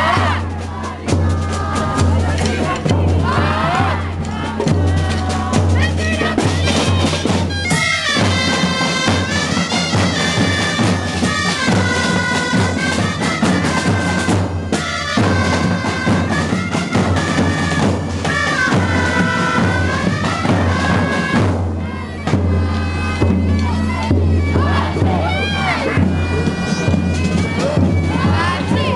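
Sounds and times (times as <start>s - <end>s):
drums: 0.0s - 28.9s
reedy wind instruments melody: 0.0s - 28.9s.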